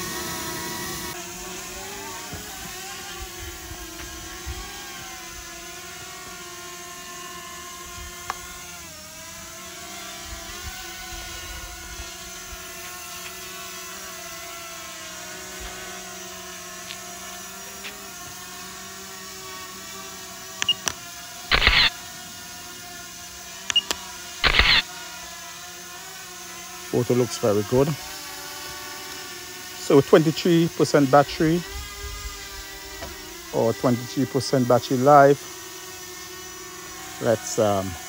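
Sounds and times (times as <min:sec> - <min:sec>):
quadcopter propellers humming: 0:00.0 - 0:38.0.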